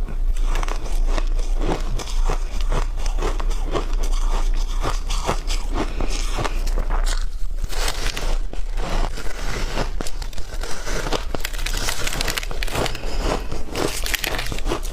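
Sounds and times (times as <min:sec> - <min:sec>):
steady low hum: 0:00.0 - 0:14.9
ice crunching between teeth: 0:00.3 - 0:14.9.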